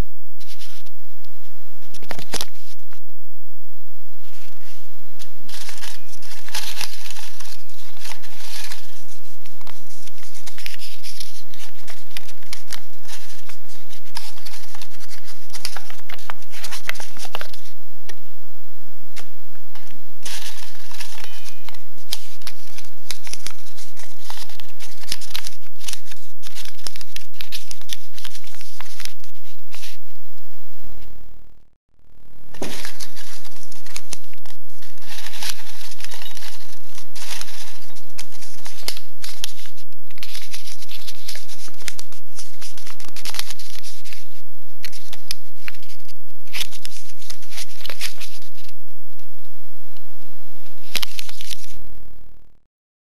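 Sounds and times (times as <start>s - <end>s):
paper crinkling and rustling: 0.4s - 0.9s, 1.8s - 2.9s, 4.2s - 17.8s, 19.2s - 30.0s, 32.5s - 48.8s, 50.8s - 51.8s.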